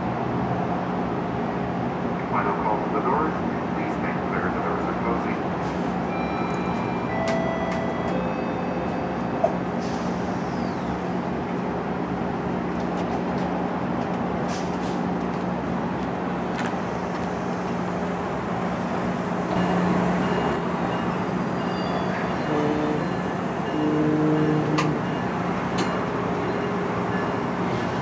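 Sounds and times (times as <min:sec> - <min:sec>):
train hum and rush: 0:00.0 - 0:28.0.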